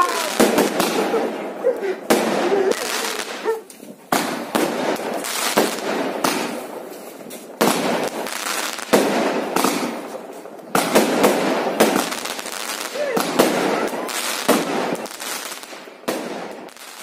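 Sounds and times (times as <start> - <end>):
crackling hiss of bursting shells: 0.0 - 17.0
fireworks bangs: 0.0 - 17.0.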